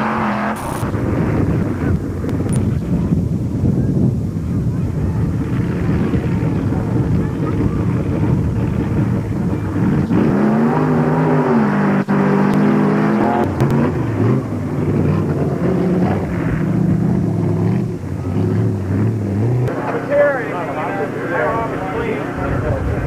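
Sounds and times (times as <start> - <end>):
buggy engine revving: 0.0 - 23.0.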